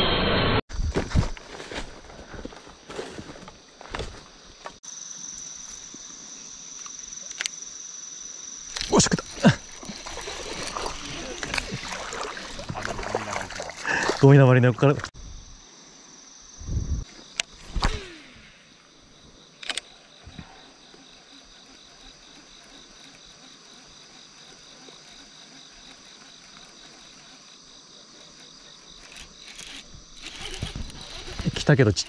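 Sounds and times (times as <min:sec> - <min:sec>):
insects singing: 0:04.3 - 0:32.0.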